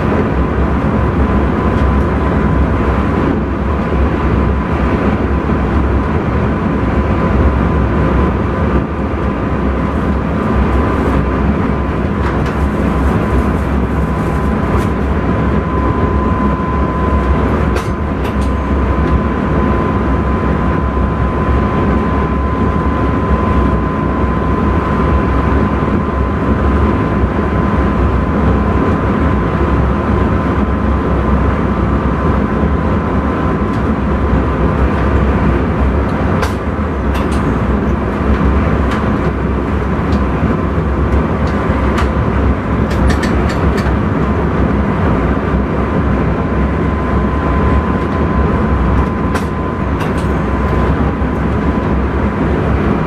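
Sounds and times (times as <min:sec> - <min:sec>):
train rumbling at speed: 0:00.0 - 0:53.0.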